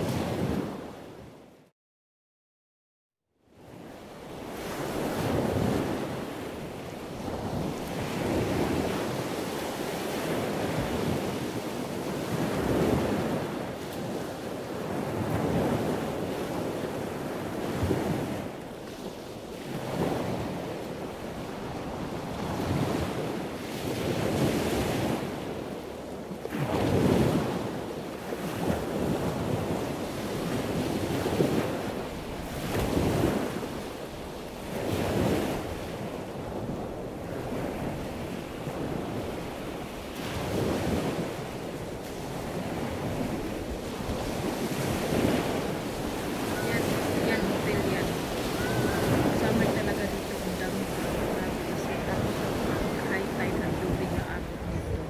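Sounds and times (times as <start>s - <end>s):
wind buffeting microphone: 3.6s - 55.0s.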